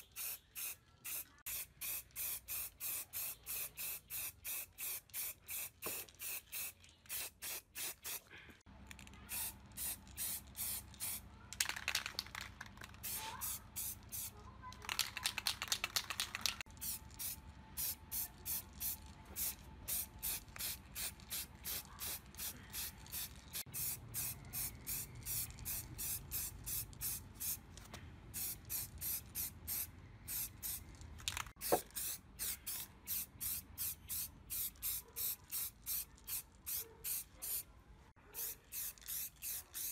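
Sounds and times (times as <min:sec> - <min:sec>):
spray paint can hissing: 0:00.0 - 0:08.3, 0:09.3 - 0:27.6, 0:28.3 - 0:37.6, 0:38.4 - 0:39.9.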